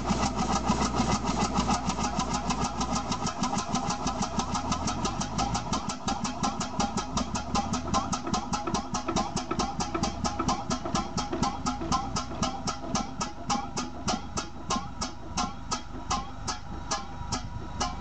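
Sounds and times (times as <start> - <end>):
engine mechanical clatter: 0.0 - 18.0
steam engine exhaust puffs: 0.0 - 18.0.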